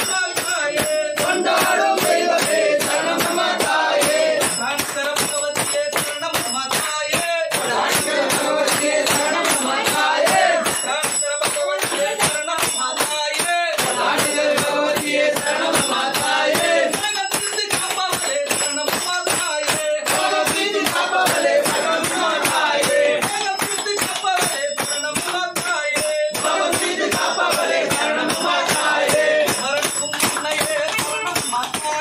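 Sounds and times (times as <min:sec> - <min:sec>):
jingling percussion beat: 0:00.0 - 0:32.0.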